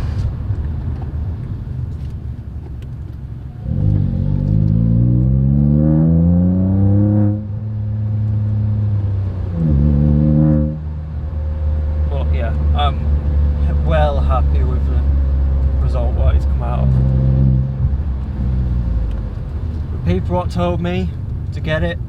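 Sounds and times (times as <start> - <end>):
car engine accelerating: 0.0 - 20.2.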